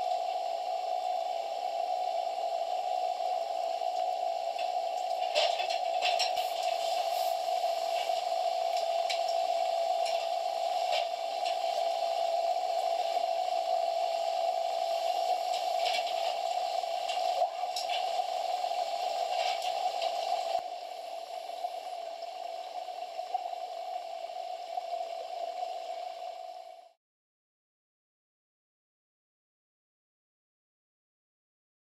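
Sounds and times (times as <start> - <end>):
underwater hum and hiss: 0.0 - 27.0.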